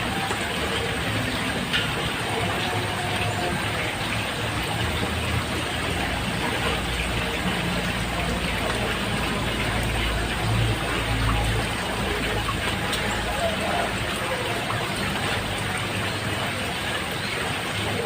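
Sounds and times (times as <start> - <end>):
rain falling on a roof: 0.0 - 18.0
sharp drip: 0.0 - 18.0.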